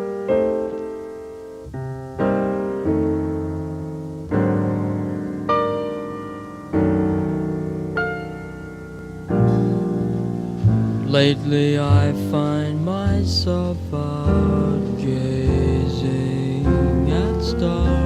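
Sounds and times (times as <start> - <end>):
jazz piano chords: 0.0 - 18.0.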